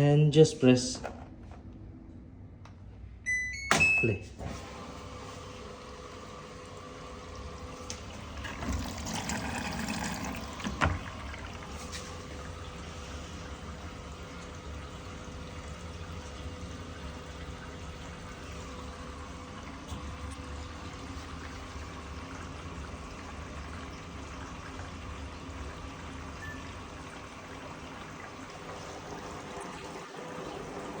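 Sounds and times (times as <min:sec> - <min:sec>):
washing machine low hum: 0:00.0 - 0:31.0
water rushing into washing machine: 0:04.4 - 0:31.0.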